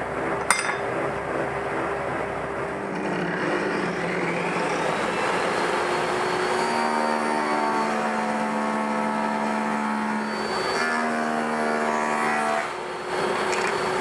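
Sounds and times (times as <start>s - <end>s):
power tool cutting wood: 2.7s - 14.0s.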